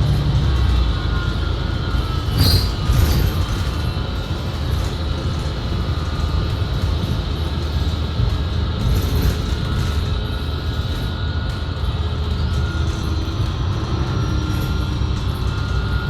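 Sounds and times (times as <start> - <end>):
bus cabin rumble: 0.0 - 16.0
transmission whine: 0.0 - 16.0.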